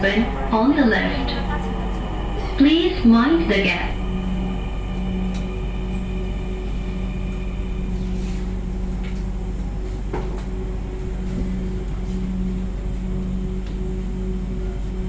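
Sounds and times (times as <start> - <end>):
electrical hum in train carriage: 0.0 - 15.0.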